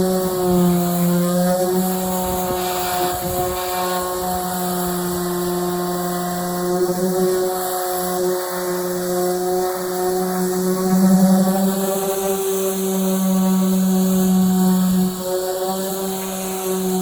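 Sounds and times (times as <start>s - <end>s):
electric sander humming: 0.0s - 17.0s.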